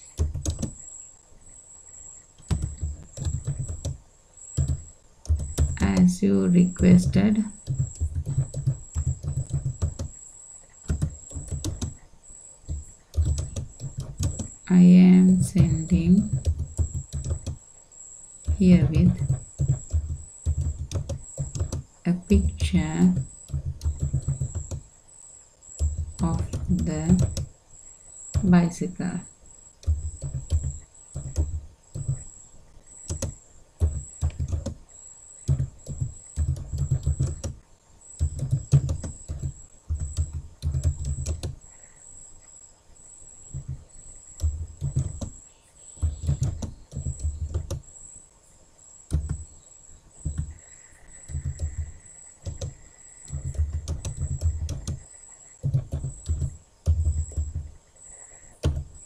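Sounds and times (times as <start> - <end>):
typing on keyboard: 0.0 - 0.8, 2.4 - 4.0, 4.6 - 12.0, 12.6 - 17.6, 18.4 - 24.9, 25.7 - 27.5, 28.3 - 32.4, 33.0 - 34.8, 35.4 - 41.7, 43.5 - 45.4, 46.0 - 47.9, 49.1 - 49.5, 50.2 - 57.8, 58.6 - 59.0.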